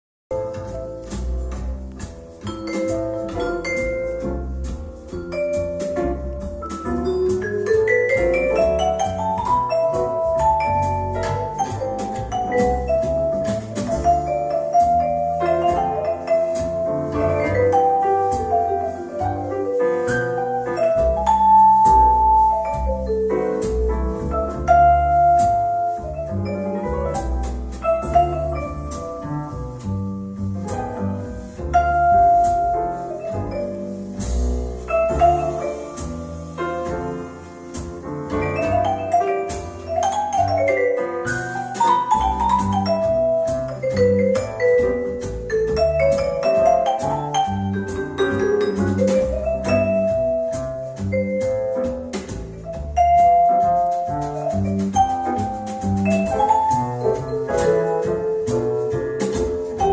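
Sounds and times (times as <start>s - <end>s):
mallet percussion music with bass: 0.3s - 59.9s.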